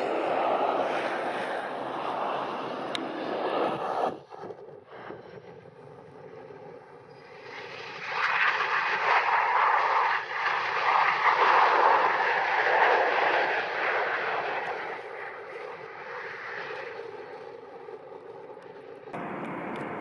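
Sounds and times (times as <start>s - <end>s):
jet engine rushing: 0.0s - 20.0s.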